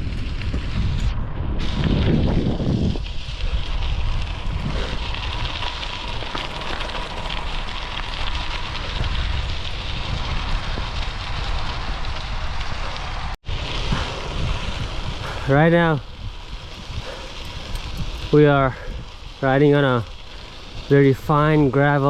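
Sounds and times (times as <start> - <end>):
bicycle tyres crunching on gravel: 0.0 - 22.0
wind rumbling on microphone: 0.0 - 22.0.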